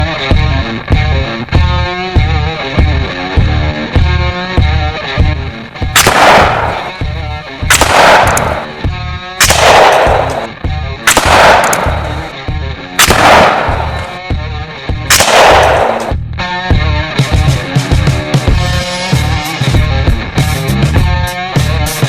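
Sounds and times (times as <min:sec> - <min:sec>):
rock music with steady beat: 0:00.0 - 0:22.0.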